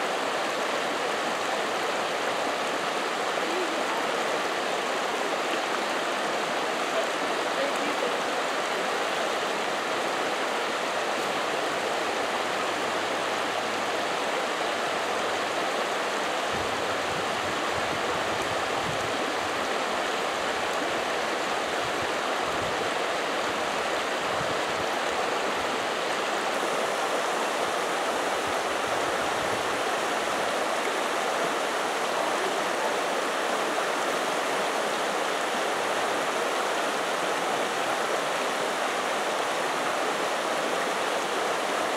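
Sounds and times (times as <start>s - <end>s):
creek water rushing over rocks: 0.0s - 41.9s.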